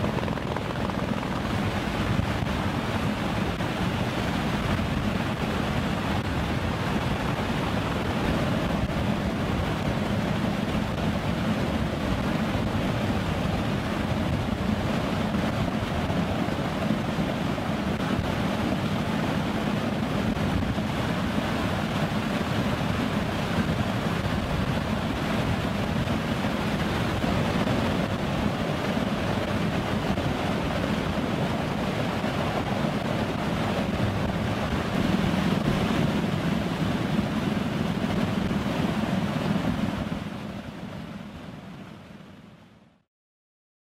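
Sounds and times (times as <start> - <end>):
rushing air and aircraft engine: 0.0 - 43.1.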